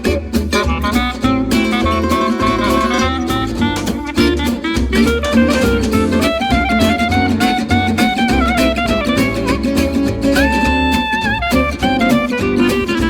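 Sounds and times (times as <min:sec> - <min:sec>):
instrumental music with steady beat: 0:00.0 - 0:13.0.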